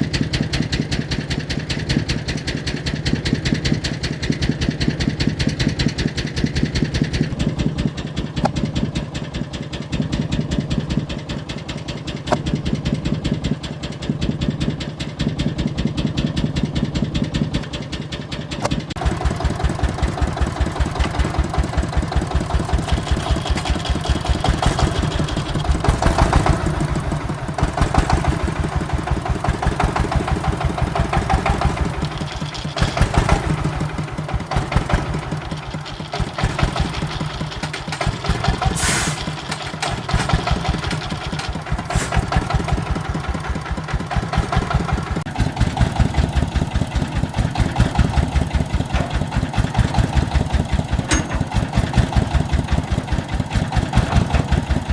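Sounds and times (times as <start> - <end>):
vehicle engine chugging: 0.0 - 54.9.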